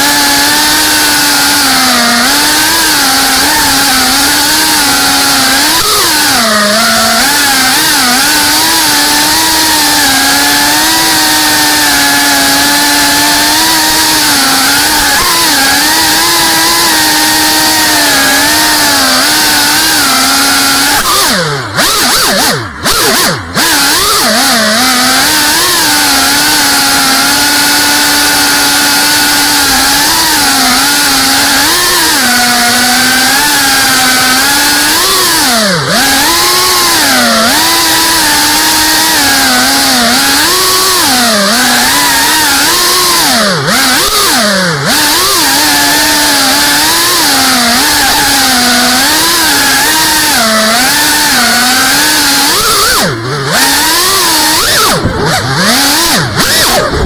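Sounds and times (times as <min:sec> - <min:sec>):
drone motors buzzing: 0:00.0 - 0:57.0.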